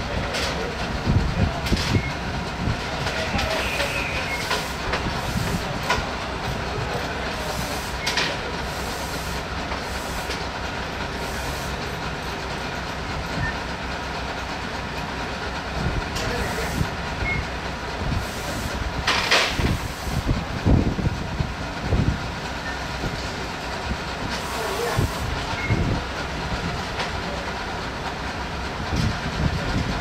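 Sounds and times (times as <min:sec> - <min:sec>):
engine rumble: 0:00.0 - 0:30.0.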